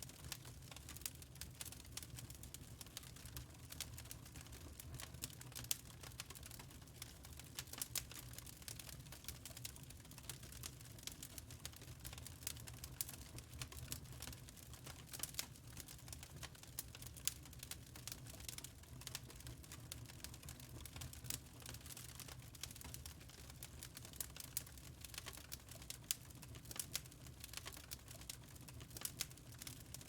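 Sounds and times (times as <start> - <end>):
fire crackling: 0.1 - 30.0.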